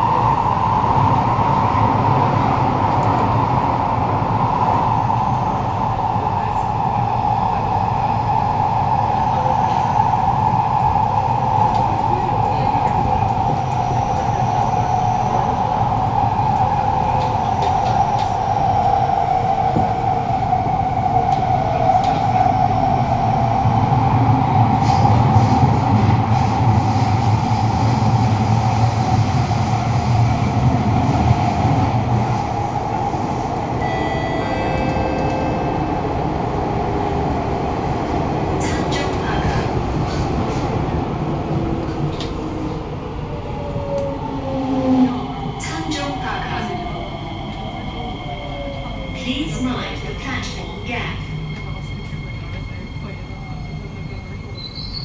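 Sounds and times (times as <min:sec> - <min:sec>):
train low rumble: 0:00.0 - 0:55.0
train whine: 0:00.0 - 0:55.0.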